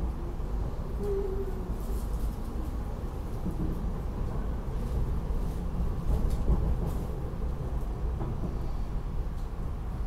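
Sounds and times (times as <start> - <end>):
train rumble from inside: 0.0 - 10.0.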